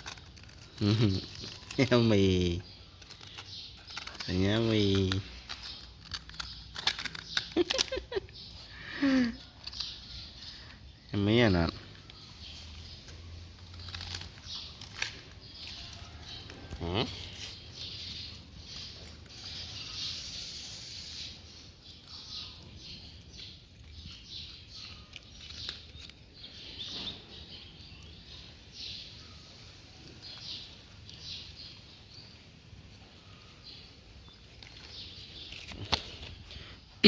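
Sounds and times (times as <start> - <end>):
dog crunching food: 0.0 - 19.8, 21.8 - 36.7.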